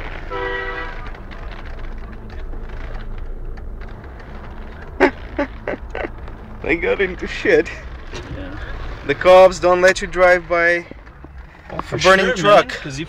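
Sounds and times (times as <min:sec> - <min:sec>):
engine and traffic rumble: 0:00.0 - 0:13.0.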